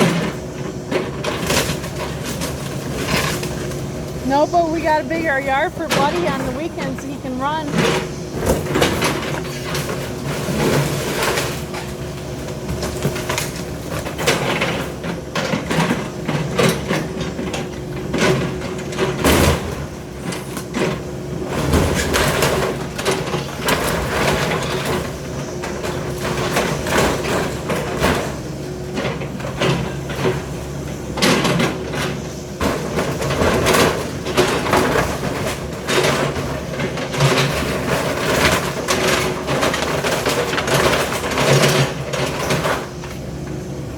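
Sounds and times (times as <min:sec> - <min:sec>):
demolition machine engine running: 0:00.0 - 0:43.9.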